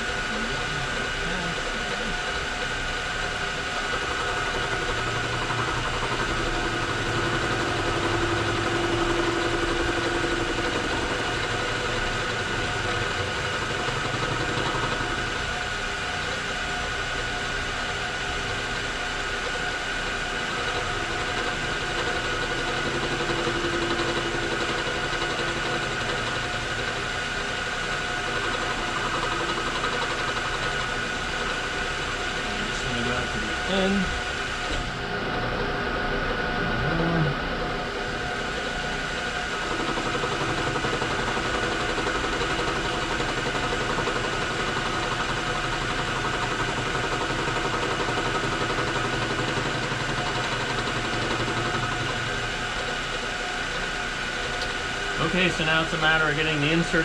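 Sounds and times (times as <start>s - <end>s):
machine tool motor humming: 0.0s - 57.0s.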